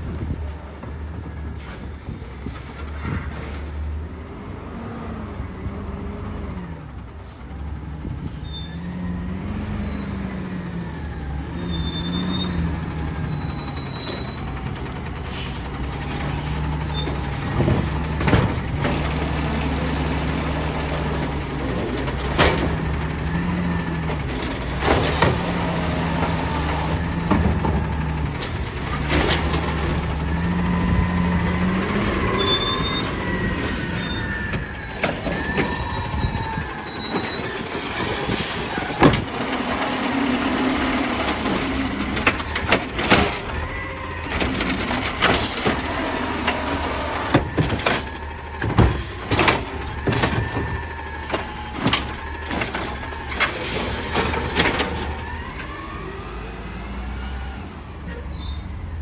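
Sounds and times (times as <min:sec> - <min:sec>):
garbage truck engine running: 0:00.0 - 0:59.0
high squealing: 0:07.1 - 0:57.4.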